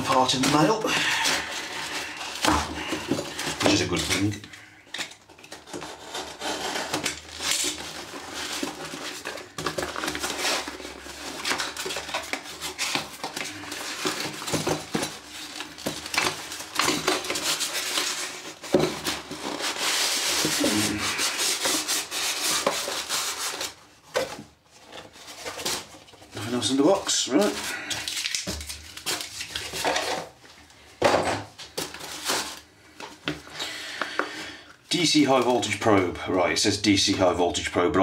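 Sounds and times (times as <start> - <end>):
cardboard box rustling and tearing: 0.0 - 4.4, 5.2 - 30.4, 31.7 - 32.7.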